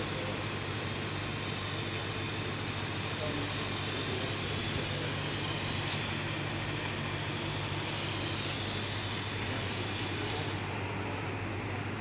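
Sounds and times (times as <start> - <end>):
laser welding machine hiss: 0.0 - 10.8
low machine hum: 0.0 - 12.0.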